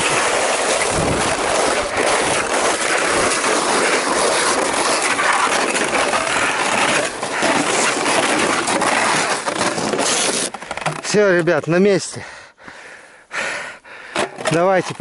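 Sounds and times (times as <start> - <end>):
skis scraping over crusted snow: 0.0 - 12.0, 14.5 - 15.0.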